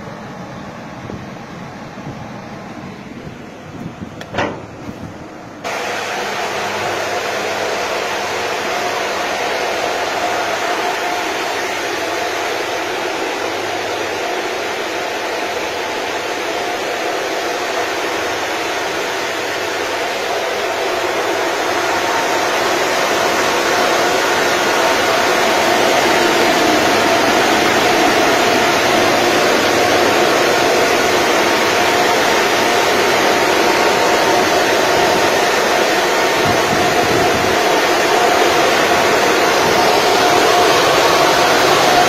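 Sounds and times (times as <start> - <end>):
air rushing through ducting: 0.0 - 42.0
fan whine: 0.0 - 42.0.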